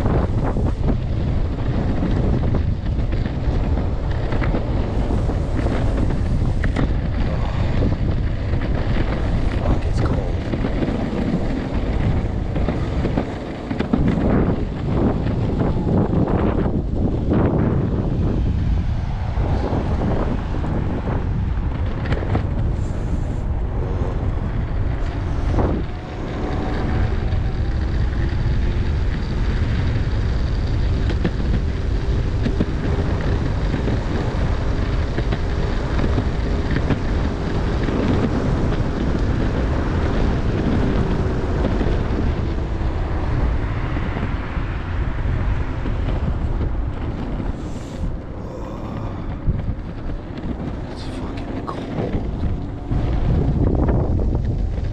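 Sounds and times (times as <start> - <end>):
skateboard wheels rumbling on pavement: 0.0 - 54.9
wind buffeting microphone: 0.0 - 54.9.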